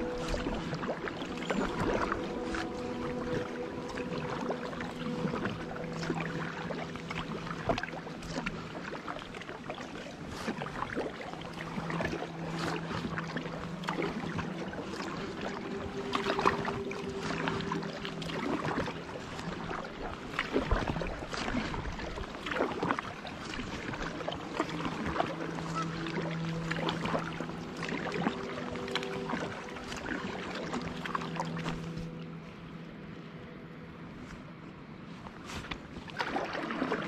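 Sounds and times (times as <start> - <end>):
low steady hum: 0.0 - 37.0
paddle splashing and dripping: 0.0 - 37.0.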